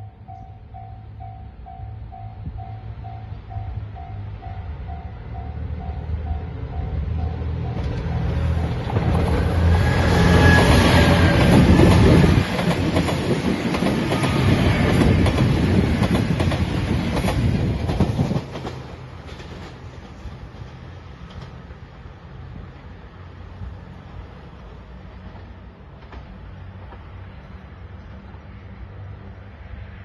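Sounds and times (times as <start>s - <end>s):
diesel train engines running: 0.0s - 30.0s.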